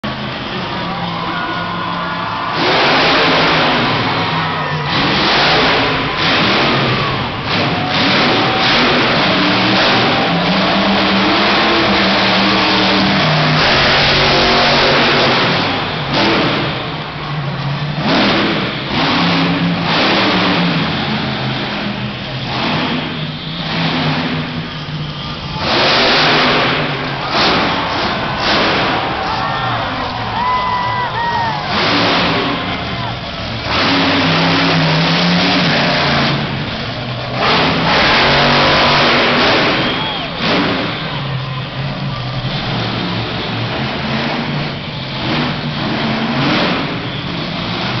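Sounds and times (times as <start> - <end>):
monster truck engine revving: 0.0 - 48.0.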